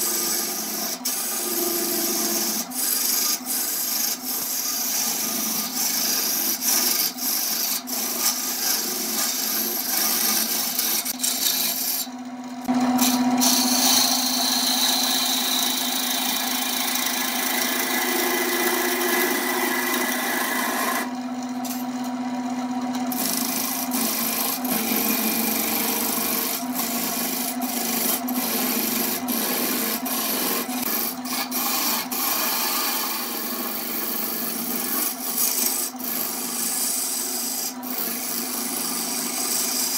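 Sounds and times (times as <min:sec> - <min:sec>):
scraper rasping on spinning wood: 0:00.0 - 0:21.2, 0:23.0 - 0:39.9
lathe humming: 0:00.0 - 0:39.9.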